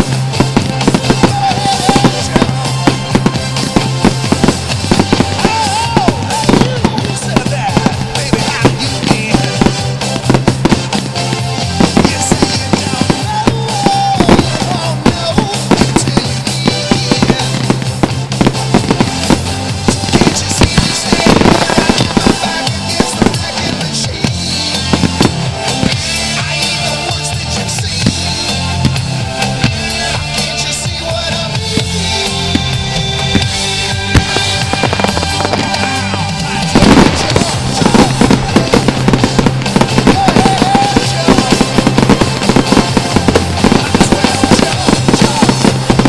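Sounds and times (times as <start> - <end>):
fireworks bangs and crackles: 0.0 - 46.0
music with low bass notes: 0.0 - 46.0.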